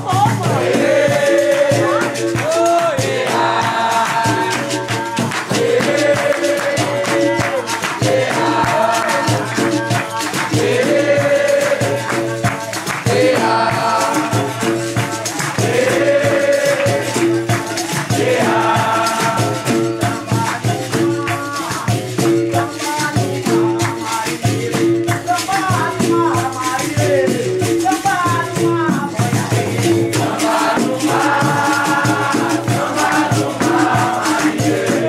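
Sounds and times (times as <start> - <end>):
berimbau ensemble: 0.0 - 35.0
call-and-response group singing: 0.0 - 35.0
drumming: 0.0 - 35.0
tambourine jingles: 0.0 - 35.0.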